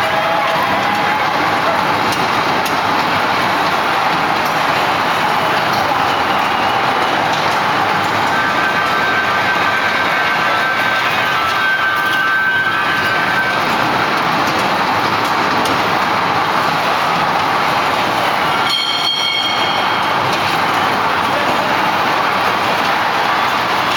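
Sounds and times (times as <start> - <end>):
ride wheels rolling on rails: 0.0 - 23.9.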